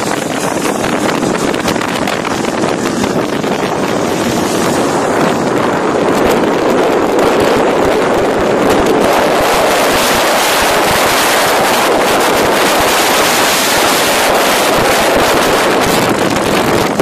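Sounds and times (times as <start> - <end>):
heavy wind noise on microphone: 0.0 - 17.0
motorcycle engine: 0.0 - 17.0
road noise: 0.0 - 17.0.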